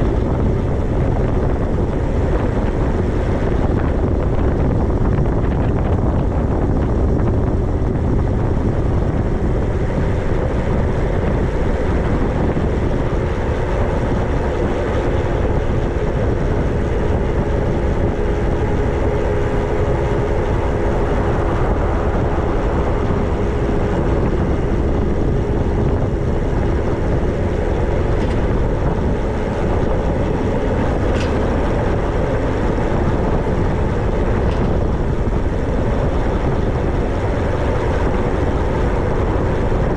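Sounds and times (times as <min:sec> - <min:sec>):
electric motor hum: 0:00.0 - 0:39.9
wind buffeting microphone: 0:00.0 - 0:39.9.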